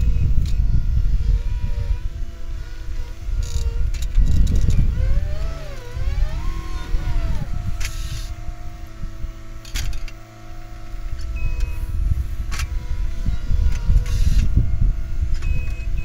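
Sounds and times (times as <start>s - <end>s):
diesel loader engine: 0.0s - 16.0s.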